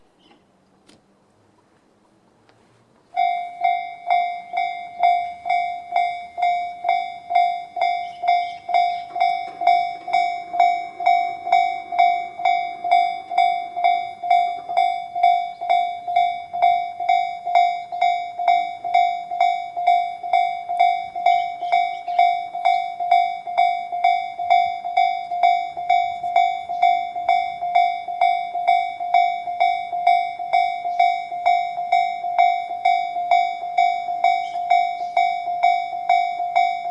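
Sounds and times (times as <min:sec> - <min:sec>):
level-crossing warning bell dinging: 0:03.1 - 0:36.9.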